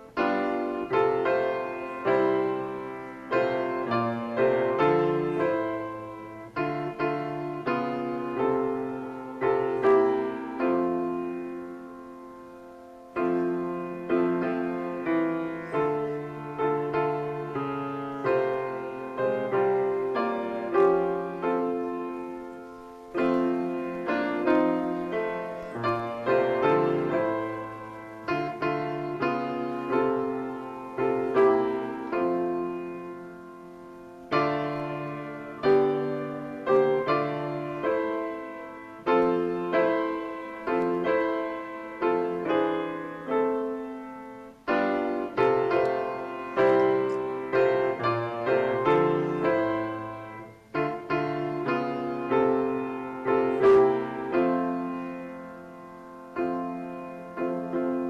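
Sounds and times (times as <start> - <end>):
grand piano playing slow chords: 0.0 - 58.0.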